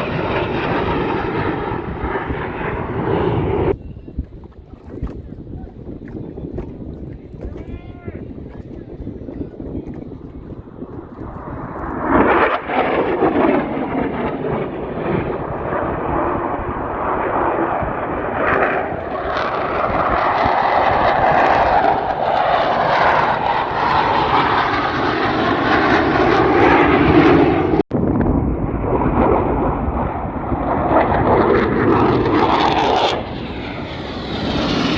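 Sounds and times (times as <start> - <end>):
airplane flying by: 0.0 - 27.8, 28.4 - 34.9.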